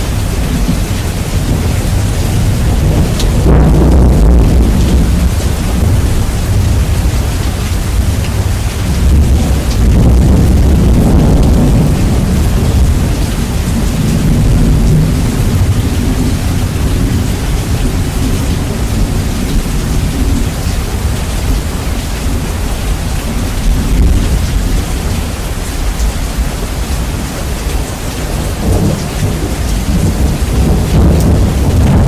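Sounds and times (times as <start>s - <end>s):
rumbling thunder: 0.0s - 32.0s
steady rain: 0.0s - 32.0s.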